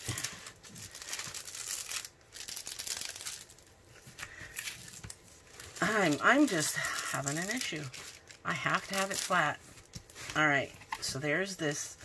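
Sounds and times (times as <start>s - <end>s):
cellophane crinkling: 0.0s - 11.1s.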